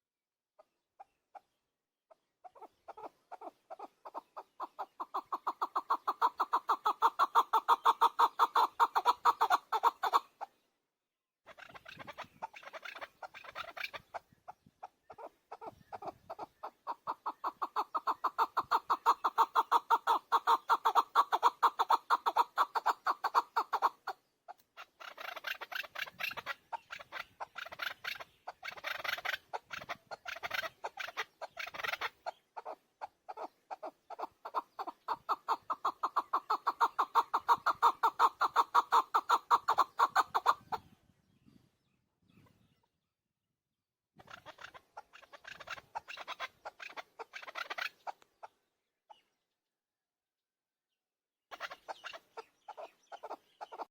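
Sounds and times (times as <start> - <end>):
partridge rapid chuck calls: 2.5 - 10.4, 11.5 - 40.9, 44.2 - 48.6, 51.5 - 53.9.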